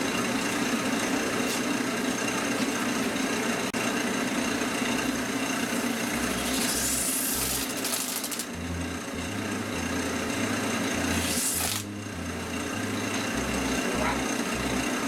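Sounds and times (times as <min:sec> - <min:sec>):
wood lathe motor running: 0:00.0 - 0:15.0.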